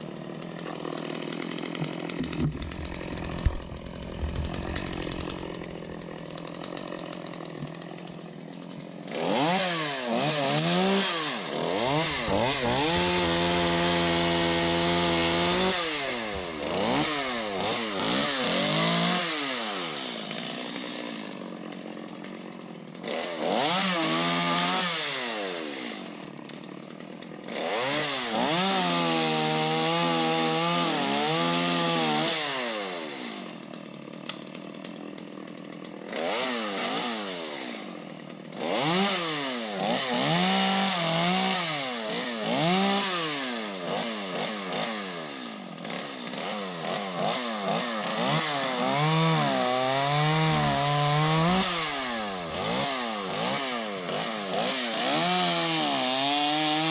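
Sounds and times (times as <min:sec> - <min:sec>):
chainsaw cutting wood: 0:00.0 - 0:56.9
chainsaw idling and revving: 0:00.0 - 0:56.9.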